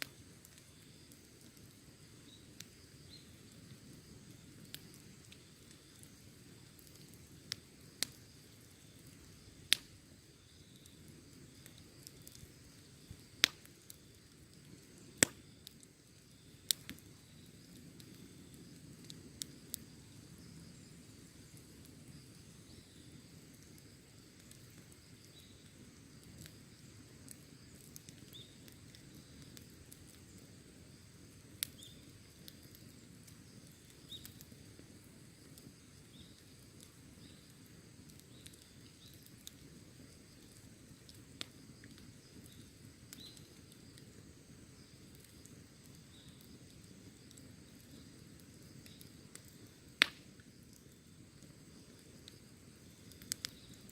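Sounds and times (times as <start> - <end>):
fire crackling pops: 0.0 - 53.9
wood fire hissing: 0.0 - 53.9.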